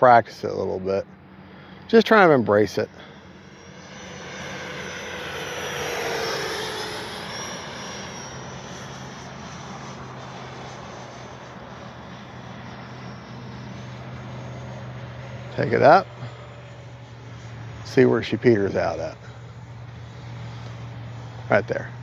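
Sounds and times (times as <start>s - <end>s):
model jet fan whine flying past: 0.3s - 22.0s.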